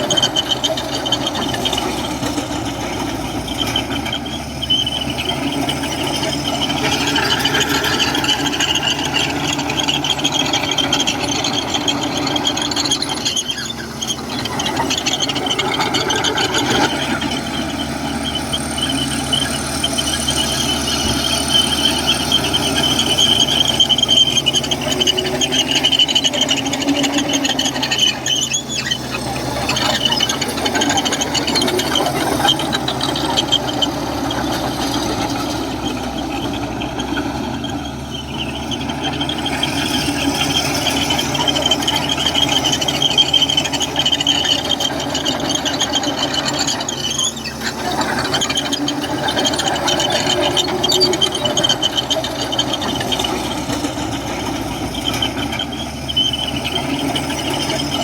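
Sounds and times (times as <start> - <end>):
bulldozer diesel engine running: 0.0 - 58.0
steel tracks squealing: 0.0 - 58.0.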